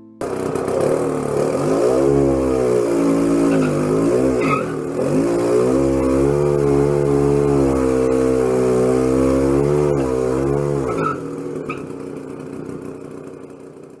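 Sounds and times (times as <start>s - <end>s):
small engine revving high: 0.2s - 14.0s.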